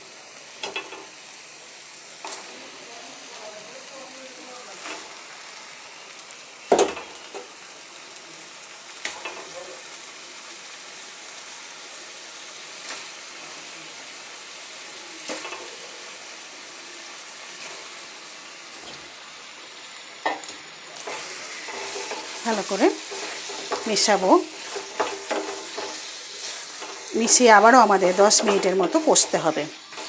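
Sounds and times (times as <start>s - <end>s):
masala sizzling in oil: 0.0s - 30.0s.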